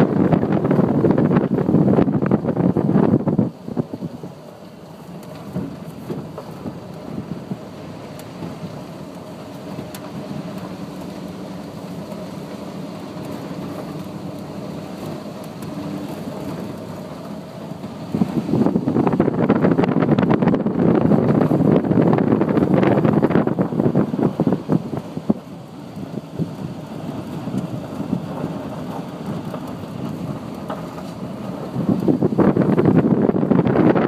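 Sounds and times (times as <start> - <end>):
truck engine hum: 0.0 - 34.0.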